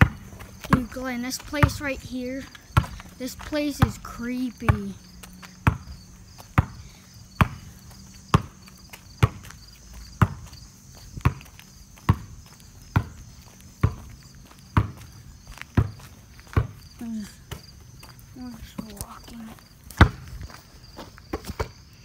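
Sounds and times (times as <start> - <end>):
footsteps on pavement: 0.0 - 22.0.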